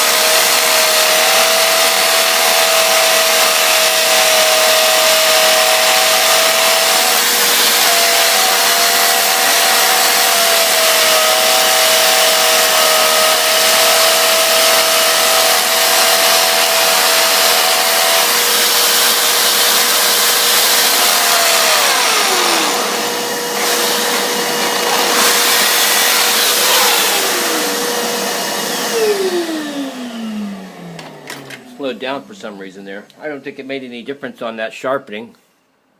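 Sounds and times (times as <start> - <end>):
electric grinder whining: 0.0 - 32.2.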